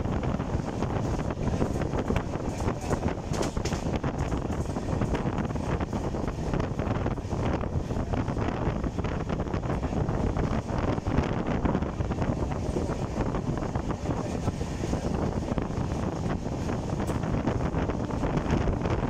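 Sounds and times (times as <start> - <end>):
vehicle rumble: 0.0 - 19.0
wind buffeting microphone: 0.0 - 19.0.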